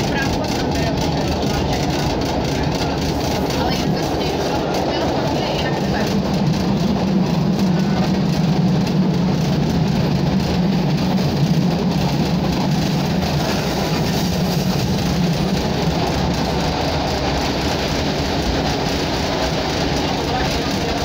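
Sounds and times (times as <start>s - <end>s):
diesel engine drone: 0.0s - 21.0s
train wheels rolling on rails: 0.0s - 21.0s.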